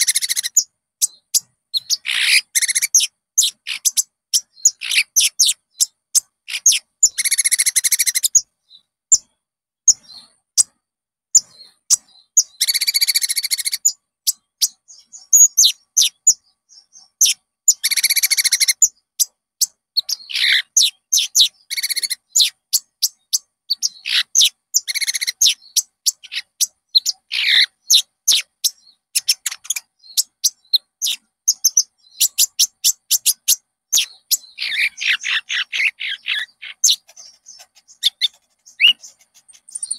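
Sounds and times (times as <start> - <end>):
bird chirping with buzzy trills: 0.0 - 39.9.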